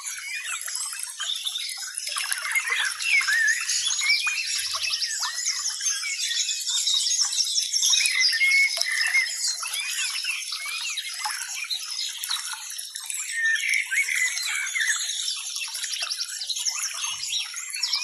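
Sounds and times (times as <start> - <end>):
birds chirping and twittering: 0.0 - 18.0.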